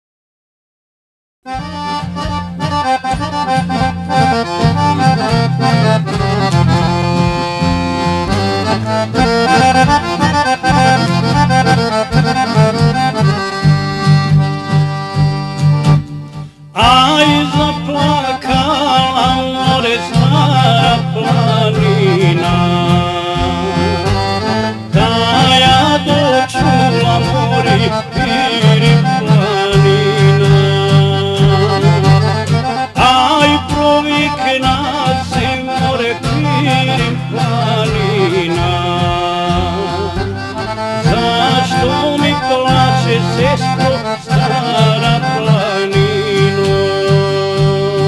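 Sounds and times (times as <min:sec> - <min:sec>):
accordion folk music: 0:01.5 - 0:48.0
bass chords: 0:01.5 - 0:48.0.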